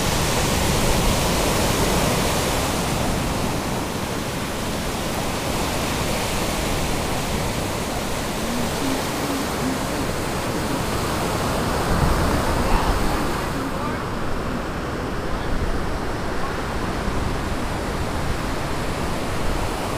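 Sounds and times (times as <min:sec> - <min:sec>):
ocean surf breaking: 0:00.0 - 0:19.9.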